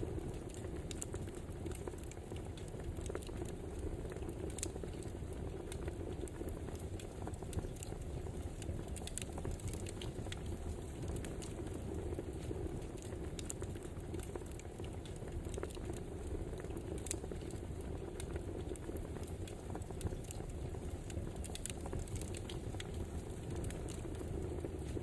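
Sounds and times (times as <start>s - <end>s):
fire crackling and popping: 0.0s - 25.0s
fire rushing: 0.0s - 25.0s.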